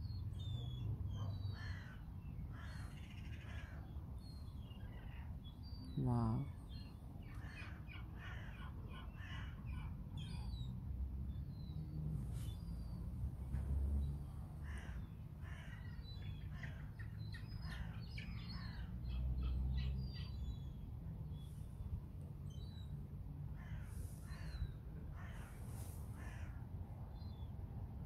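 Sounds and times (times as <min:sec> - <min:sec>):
birds calling: 0:00.0 - 0:10.7, 0:12.4 - 0:21.9, 0:22.5 - 0:26.6.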